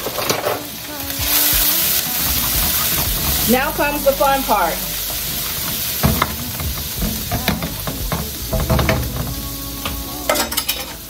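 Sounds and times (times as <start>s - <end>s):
garlic sizzling in hot oil: 0.0s - 11.0s
wooden spatula scraping wok: 1.3s - 11.0s.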